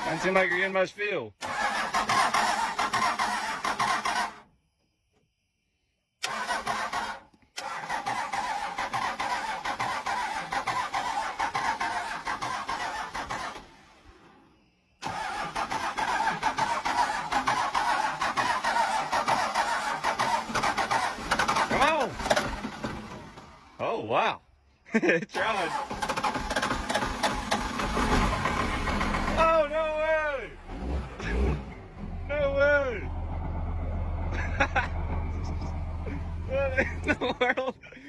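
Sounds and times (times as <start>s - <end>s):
diesel engine cranking without firing: 0.0s - 4.5s, 6.2s - 23.9s, 25.3s - 37.7s.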